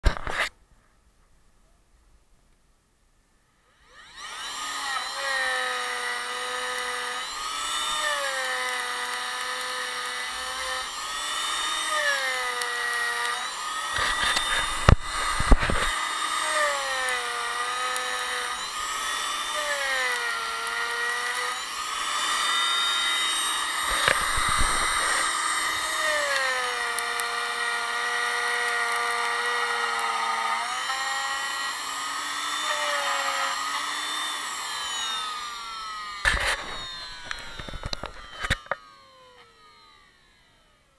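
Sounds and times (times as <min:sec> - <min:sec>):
router motor whine: 0:00.0 - 0:00.5, 0:03.6 - 0:40.9.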